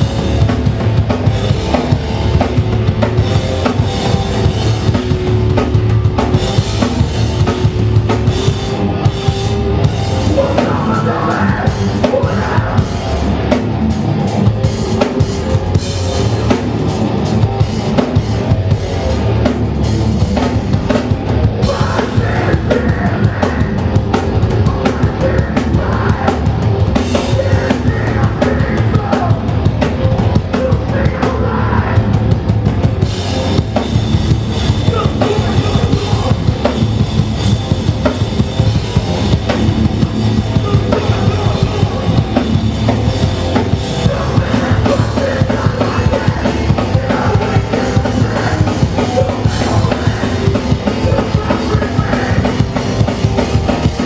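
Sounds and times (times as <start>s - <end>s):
fast pounding drum kit: 0.0s - 54.0s
punk band playing live: 0.0s - 54.0s.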